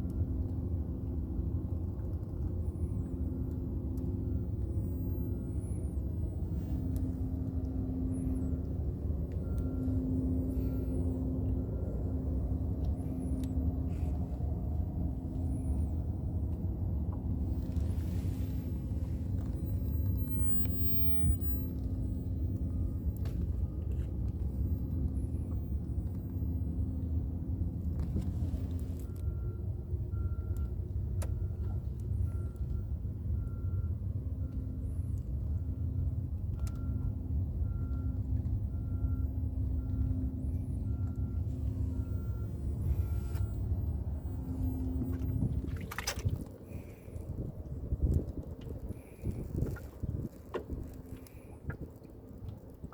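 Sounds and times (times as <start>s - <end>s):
boat motor rumbling: 0.0s - 33.6s, 35.6s - 52.9s
faint high beep: 2.6s - 47.2s.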